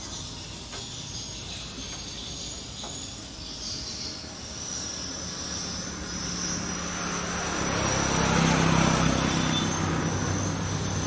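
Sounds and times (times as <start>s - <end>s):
distant engine drone: 0.0s - 11.0s
high insect whine: 0.0s - 11.0s.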